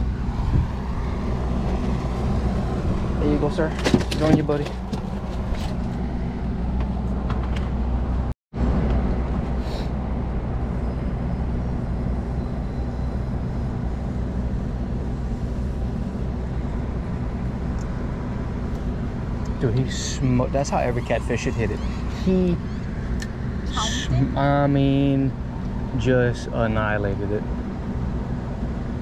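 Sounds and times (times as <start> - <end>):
constant low hum: 0.0 - 29.0
low mechanical drone: 0.0 - 29.0.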